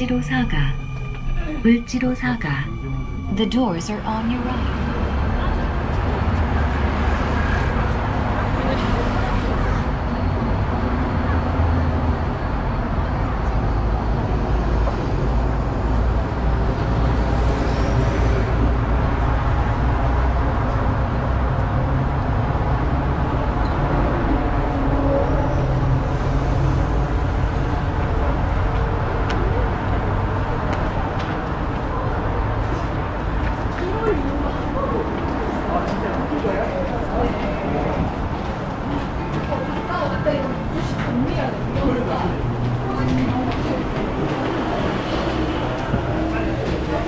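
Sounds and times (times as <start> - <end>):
city road traffic: 0.0 - 47.0.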